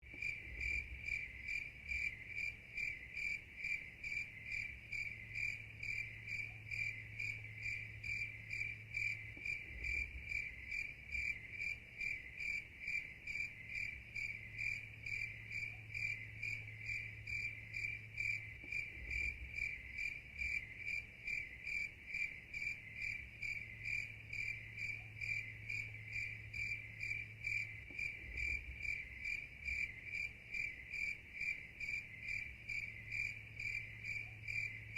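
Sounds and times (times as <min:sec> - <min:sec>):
faint low hum: 0:00.0 - 0:34.9
crickets chirping: 0:00.1 - 0:34.9.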